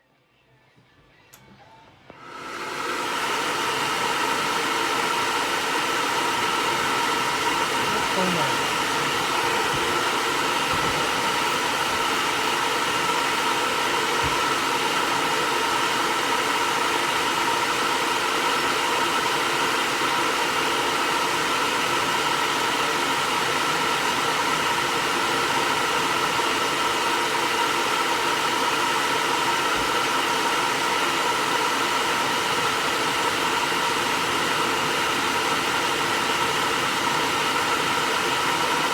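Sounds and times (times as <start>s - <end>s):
hair dryer running: 2.1s - 38.9s.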